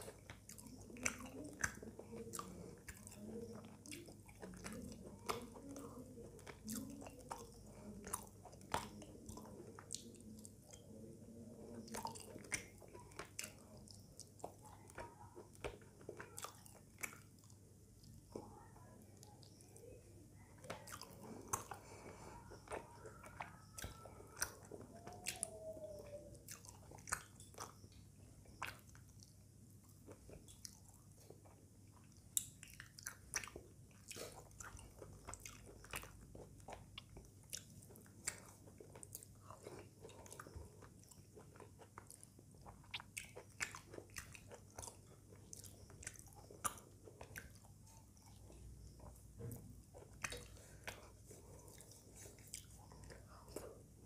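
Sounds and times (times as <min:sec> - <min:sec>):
person chewing: 0:00.0 - 0:54.0.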